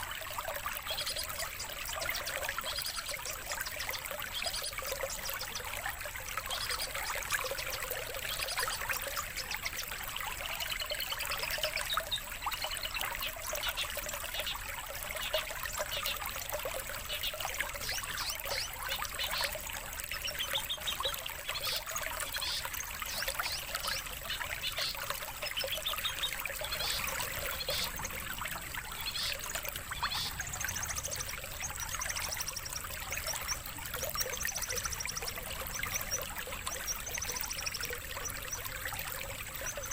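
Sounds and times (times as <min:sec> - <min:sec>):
running water trickling: 0:00.0 - 0:39.9
songbird chirps and trills: 0:00.0 - 0:39.9.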